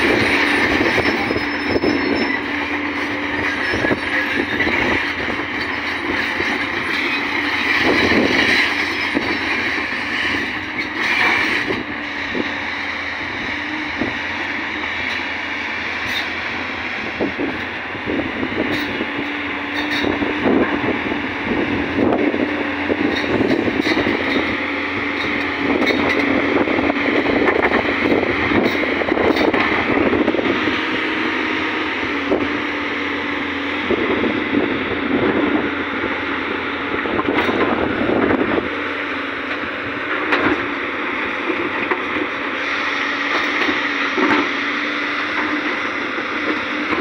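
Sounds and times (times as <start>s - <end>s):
diesel engine running under load: 0.0s - 47.0s.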